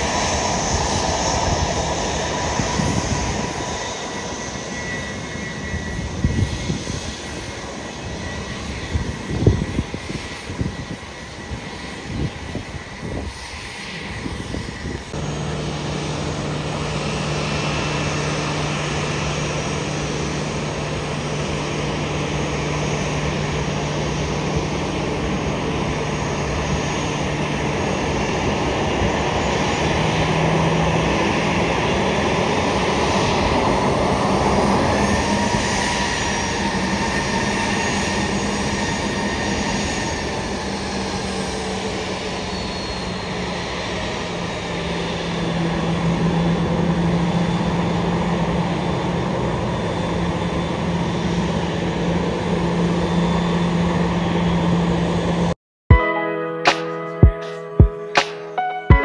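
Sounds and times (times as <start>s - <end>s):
jet engines idling: 0.0s - 55.6s
higher jet whine: 0.0s - 59.0s.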